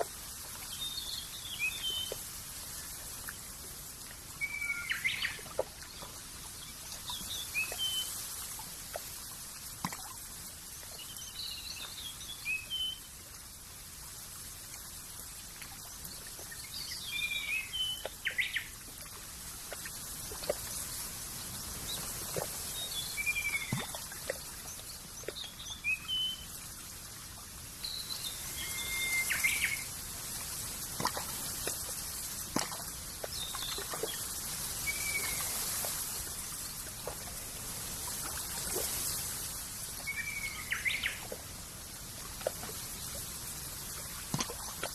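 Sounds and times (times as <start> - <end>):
faint trickling water: 0.0 - 44.9
high-pitched outdoor hiss: 0.0 - 44.9.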